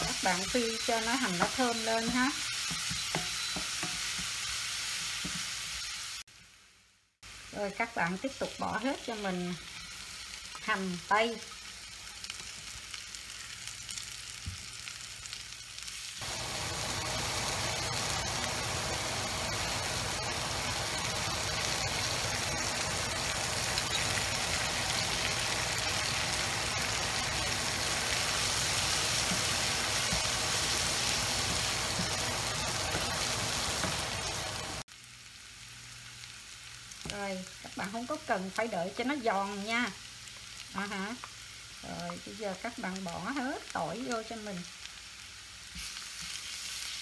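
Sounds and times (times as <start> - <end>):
onions sizzling in a frying pan: 0.0 - 47.0.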